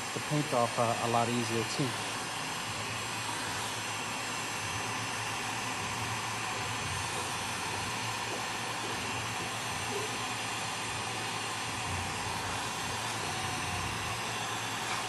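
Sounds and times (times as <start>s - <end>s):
heat gun blowing hot air: 0.0s - 15.0s.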